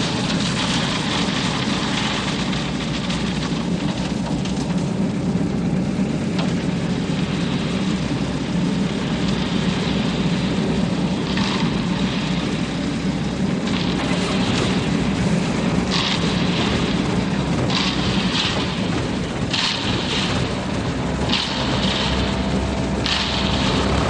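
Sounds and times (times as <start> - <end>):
concrete mixer truck engine running: 0.0 - 24.0.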